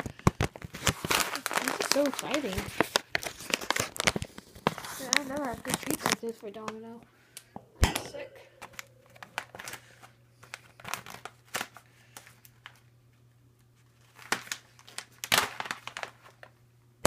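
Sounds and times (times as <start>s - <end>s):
plastic bag crinkling: 0.0s - 6.8s, 8.6s - 12.8s, 13.8s - 16.6s.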